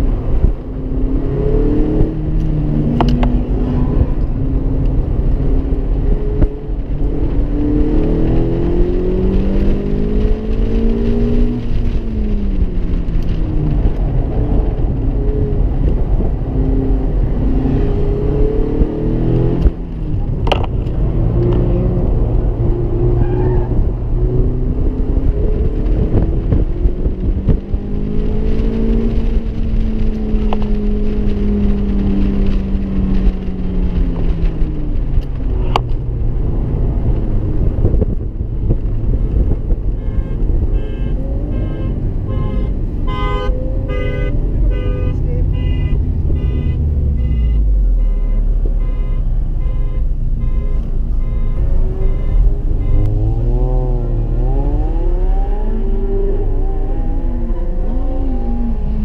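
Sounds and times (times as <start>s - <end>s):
car engine revving: 0.0s - 49.6s, 50.2s - 59.0s
heavy wind: 0.0s - 59.0s
road rumble: 0.0s - 59.0s.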